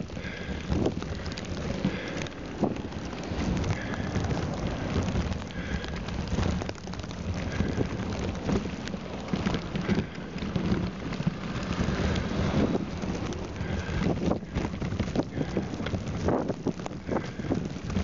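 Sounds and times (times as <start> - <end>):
bike tyres through snow: 0.0 - 18.0
dense crackle of clicks: 0.0 - 18.0
wind buffeting: 0.0 - 18.0.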